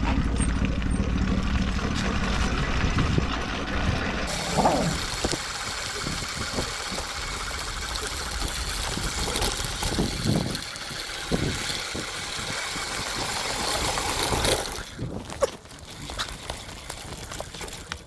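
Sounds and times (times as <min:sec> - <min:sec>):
small gas engine running: 0:00.0 - 0:18.0.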